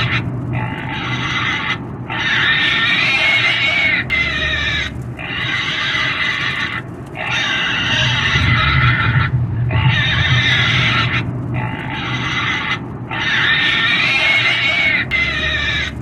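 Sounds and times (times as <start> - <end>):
pig squealing and screaming: 0.0 - 16.0.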